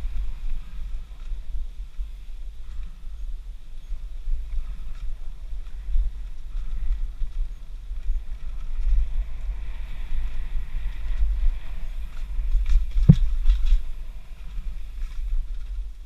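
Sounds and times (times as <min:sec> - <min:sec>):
bike tyres rolling over dirt: 0:00.0 - 0:16.0
wind rumble on microphone: 0:00.0 - 0:16.0.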